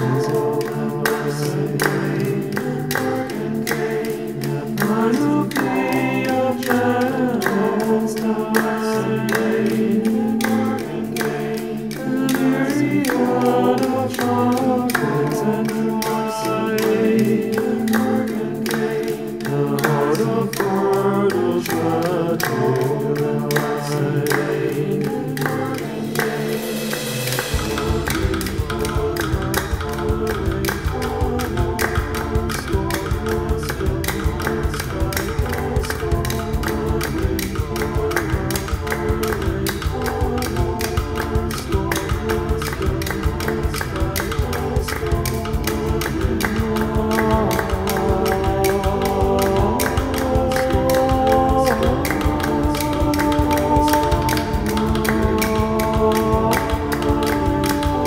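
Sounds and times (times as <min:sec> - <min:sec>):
choir-like sung vocals: 0:00.0 - 0:58.0
steady beat: 0:00.0 - 0:58.0.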